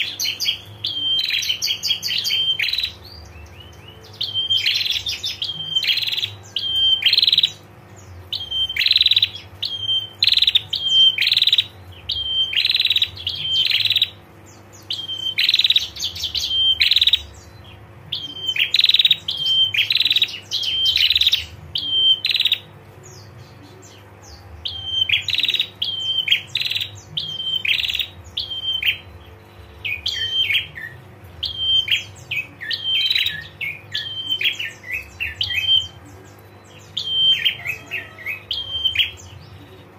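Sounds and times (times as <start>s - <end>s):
bird sharp chirping call: 0.0s - 39.9s.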